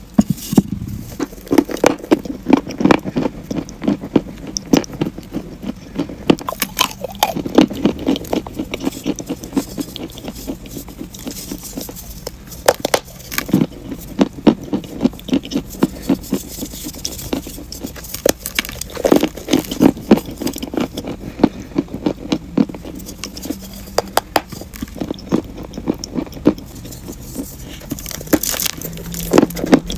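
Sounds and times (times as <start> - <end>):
chalk crunching while chewed: 0.2 - 29.9.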